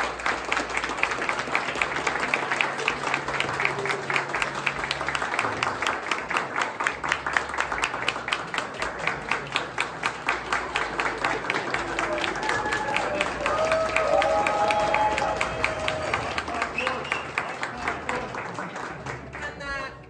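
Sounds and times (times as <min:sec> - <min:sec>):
people applauding: 0:00.0 - 0:20.0.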